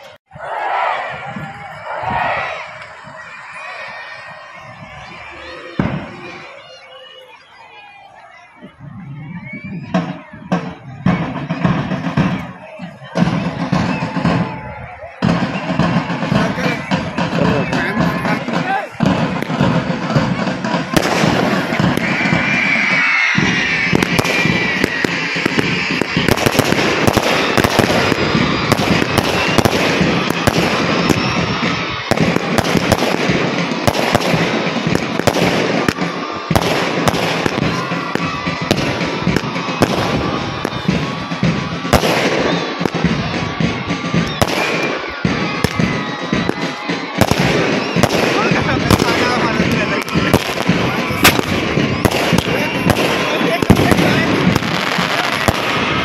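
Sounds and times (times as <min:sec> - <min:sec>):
fireworks bangs and crackles: 0:01.1 - 0:56.0.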